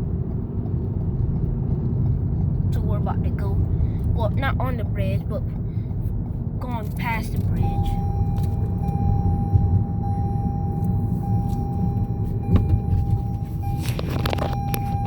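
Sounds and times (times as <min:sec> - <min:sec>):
road and tyre noise: 0:00.0 - 0:15.0.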